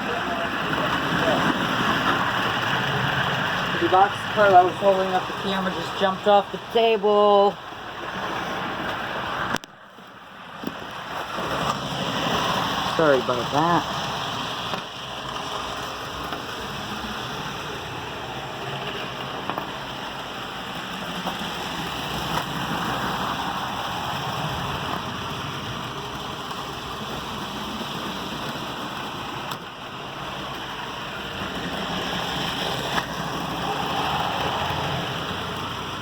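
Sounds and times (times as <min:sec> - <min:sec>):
model train motor whirring on track: 0:00.0 - 0:06.6, 0:11.0 - 0:36.0.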